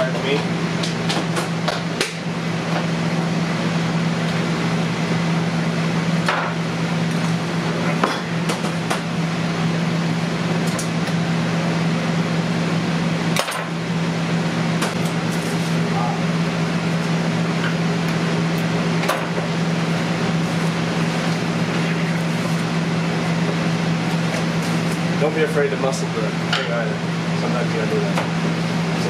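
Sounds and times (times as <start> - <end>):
kitchen machinery hum: 0.0 - 29.0.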